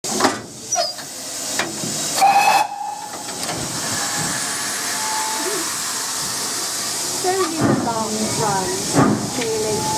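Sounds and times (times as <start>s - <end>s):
steam hissing: 0.1s - 9.9s.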